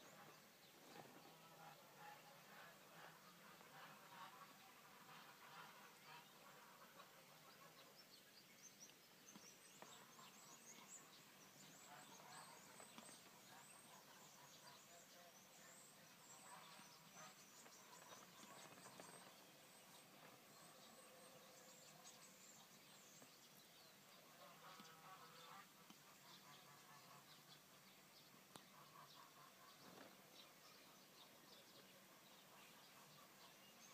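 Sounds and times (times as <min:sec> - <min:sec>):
geese calling faintly: 0:00.0 - 0:08.1, 0:09.8 - 0:22.4, 0:24.0 - 0:33.9
background hiss: 0:00.0 - 0:33.9.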